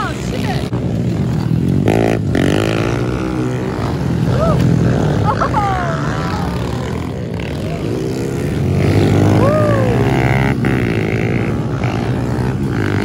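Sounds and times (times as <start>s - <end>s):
pit bike engines revving: 0.0s - 13.0s.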